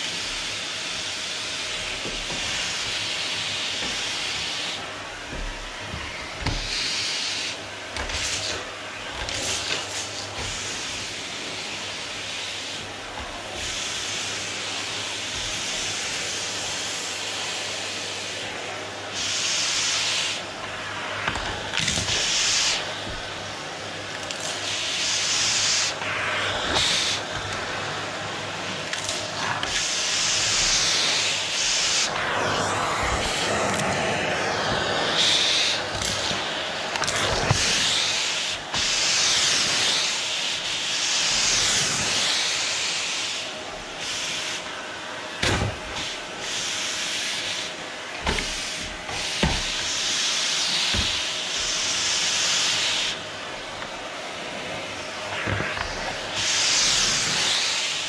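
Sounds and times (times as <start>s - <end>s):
vacuum cleaner suction hiss: 0.0s - 58.0s.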